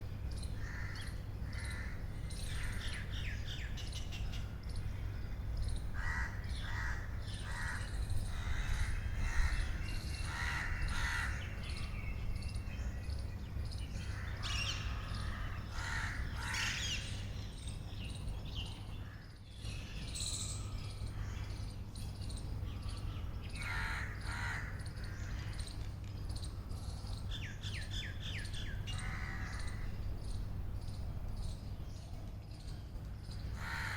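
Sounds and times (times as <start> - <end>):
birds chirping and calling: 0.0 - 33.9
steady low hum: 0.0 - 33.9.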